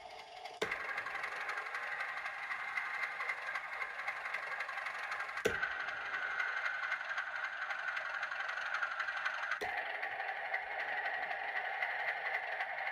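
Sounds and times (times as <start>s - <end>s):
model diesel locomotive idling: 0.0s - 12.9s.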